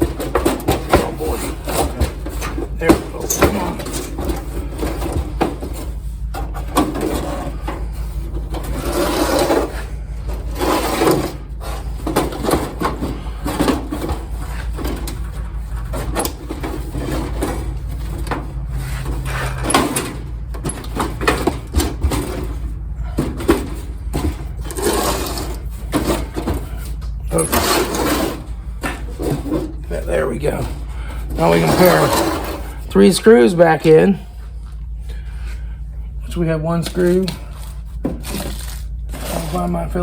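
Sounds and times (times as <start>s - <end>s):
sheet metal scraping and knocking: 0.0s - 32.8s
steady low hum: 0.0s - 40.0s.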